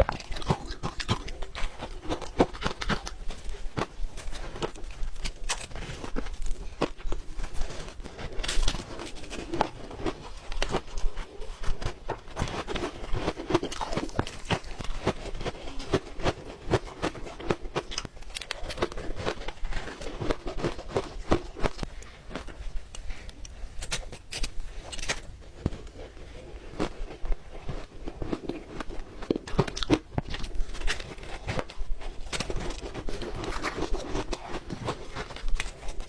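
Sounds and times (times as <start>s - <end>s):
ice crunching between teeth: 0.0s - 36.0s.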